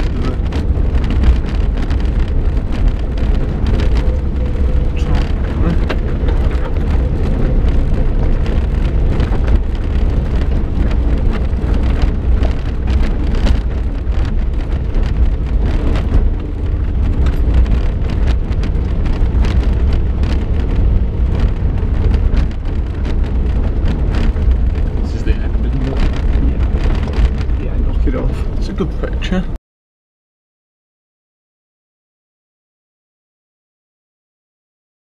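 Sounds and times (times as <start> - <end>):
stones crackling under tyres: 0.0 - 29.4
car engine and road rumble: 0.0 - 29.6.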